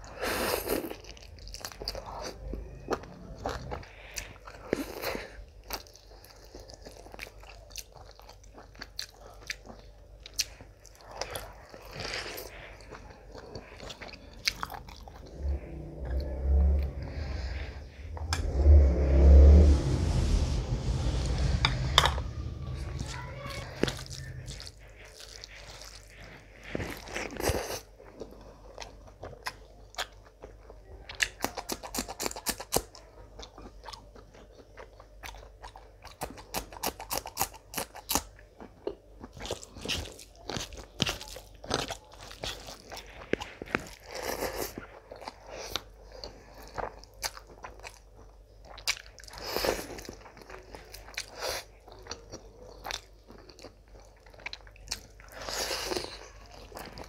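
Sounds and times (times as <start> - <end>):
person chewing food: 0.0 - 17.8, 23.9 - 57.0.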